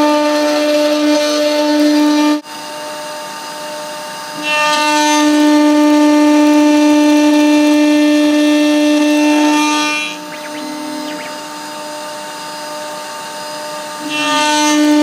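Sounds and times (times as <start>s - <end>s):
spindle whine milling steel: 0.0s - 15.0s.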